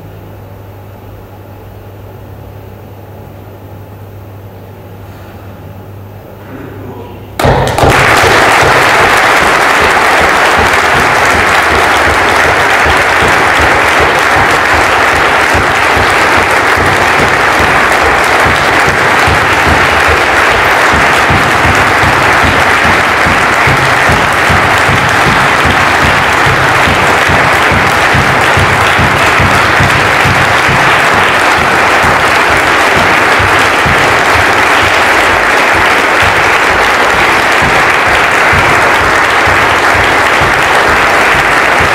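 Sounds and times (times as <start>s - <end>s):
crowd applauding: 7.4s - 41.9s.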